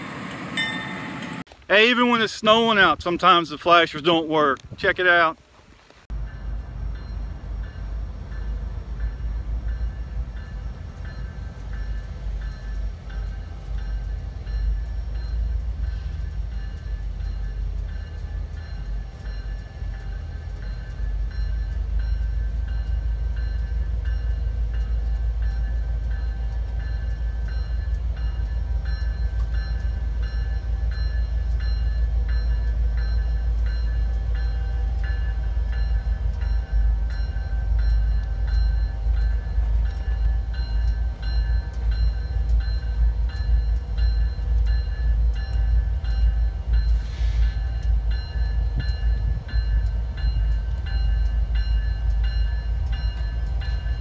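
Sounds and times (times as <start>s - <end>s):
crossing bell ringing: 0.0s - 5.4s, 6.1s - 54.0s
diesel locomotive rumble: 0.0s - 5.4s, 6.1s - 54.0s.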